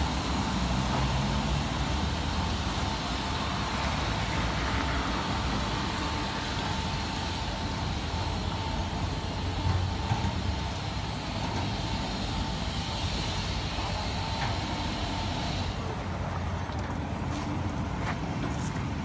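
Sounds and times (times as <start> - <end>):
hiss: 0.0 - 16.3
car wash machine hum: 0.0 - 19.0.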